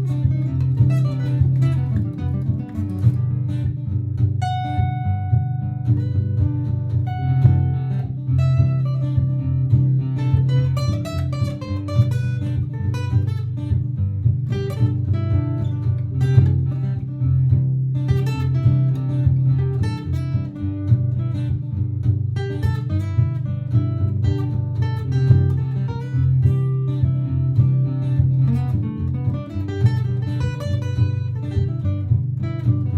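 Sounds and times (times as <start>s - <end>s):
acoustic guitar plucked notes: 0.0s - 32.9s
strummed guitar chords: 0.0s - 32.9s.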